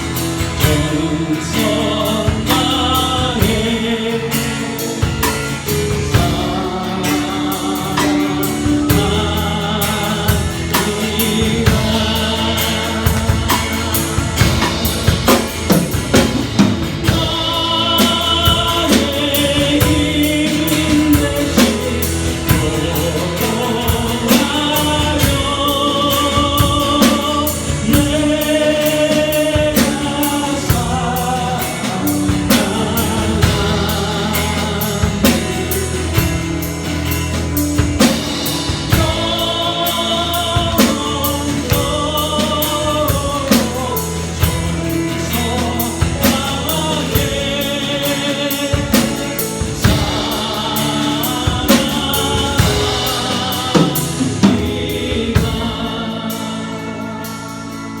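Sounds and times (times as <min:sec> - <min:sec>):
band playing: 0:00.0 - 0:58.0
drum kit beat: 0:00.0 - 0:58.0
worship team singing: 0:00.0 - 0:58.0.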